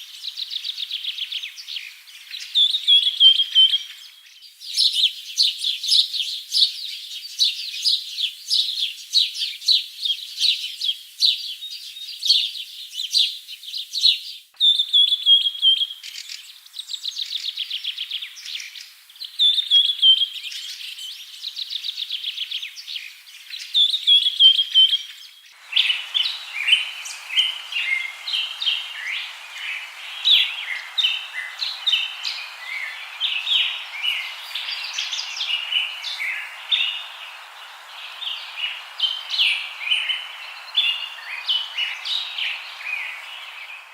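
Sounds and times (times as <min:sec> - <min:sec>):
songbirds singing: 0:00.0 - 0:43.9
steady background hiss: 0:00.0 - 0:43.9.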